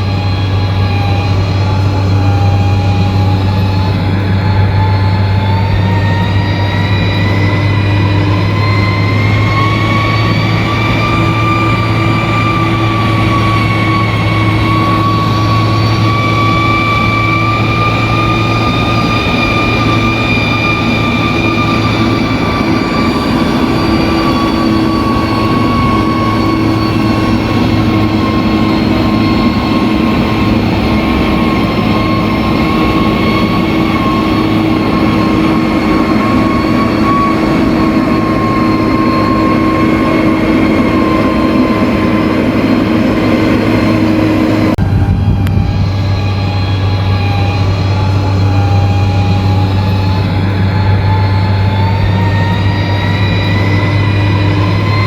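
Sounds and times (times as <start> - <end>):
bulldozer diesel engine drone: 0.0 - 55.0
high rising whine: 0.0 - 55.0.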